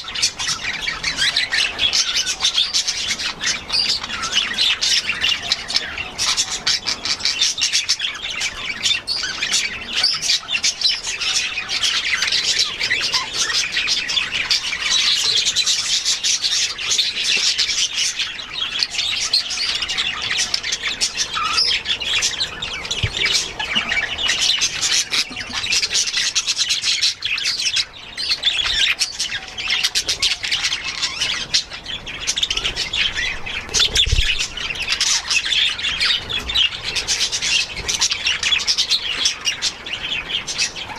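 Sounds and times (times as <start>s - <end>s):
budgies chattering and squawking: 0.0s - 40.9s.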